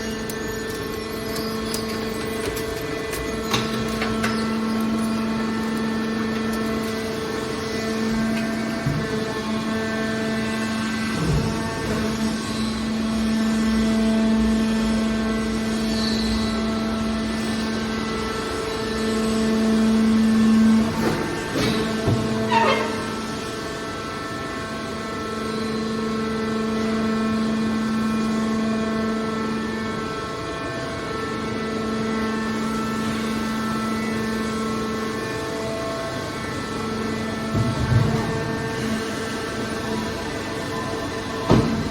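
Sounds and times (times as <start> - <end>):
hydraulic baler humming: 0.0 - 41.9.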